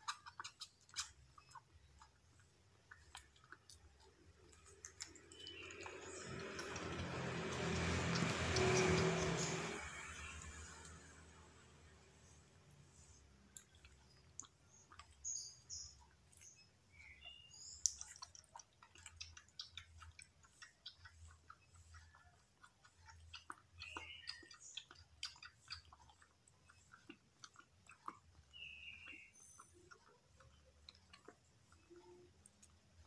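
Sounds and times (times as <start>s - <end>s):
kitten suckling from bottle: 0.0s - 33.0s.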